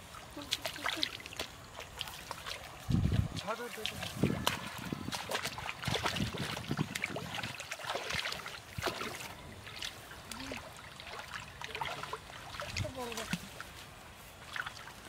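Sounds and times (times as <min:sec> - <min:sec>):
person wading in water: 0:00.0 - 0:15.0
fish thrashing in water: 0:00.3 - 0:13.4.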